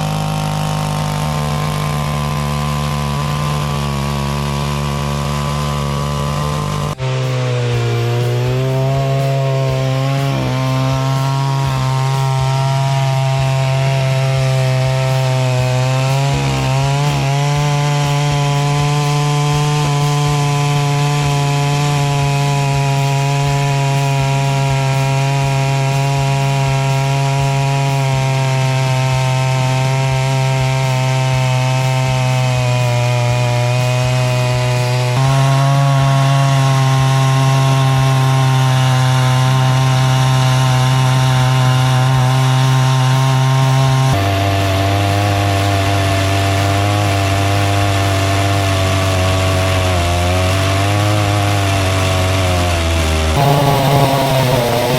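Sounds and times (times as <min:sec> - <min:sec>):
chainsaw cutting through log: 0:00.0 - 0:54.9.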